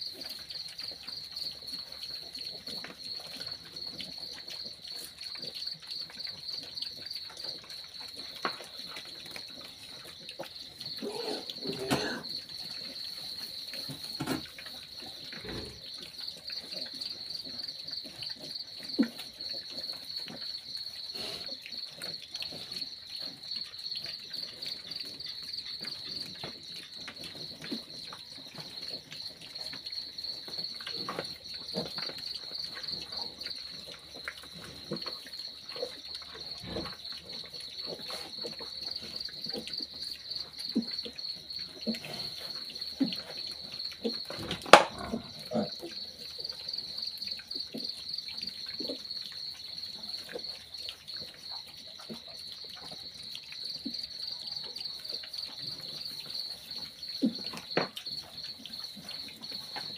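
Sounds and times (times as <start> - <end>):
cricket trilling: 0.0 - 59.9
piglets rooting in straw: 0.0 - 59.9.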